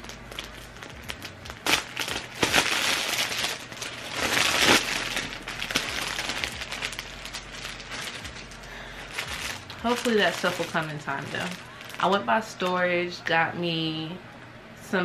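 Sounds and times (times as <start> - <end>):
scarf crinkling and rustling: 0.0 - 12.8.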